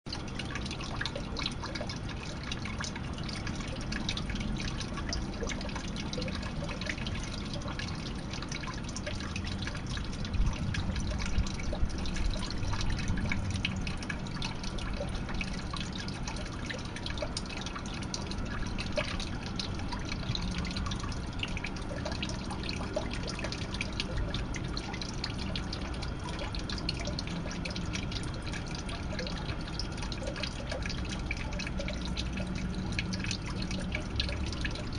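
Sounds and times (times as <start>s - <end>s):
water dripping into a pond: 0.1s - 34.9s.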